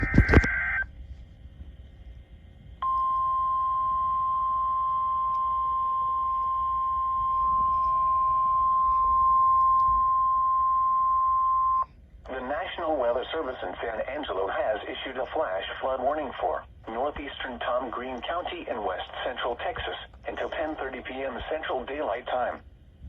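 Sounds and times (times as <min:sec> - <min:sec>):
steady warning tone: 0:02.8 - 0:22.5.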